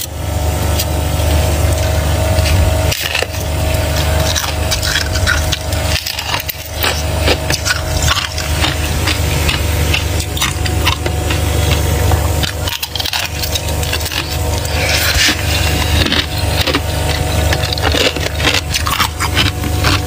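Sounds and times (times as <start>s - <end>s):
frost scraping and crunching: 0.0s - 20.0s
low hum: 0.0s - 20.0s.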